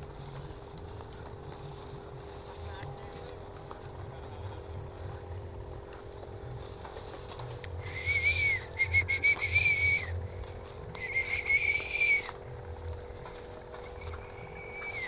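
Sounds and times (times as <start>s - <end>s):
faint low hum: 0.0s - 15.0s
kite hummer buzzing in wind: 0.0s - 15.0s.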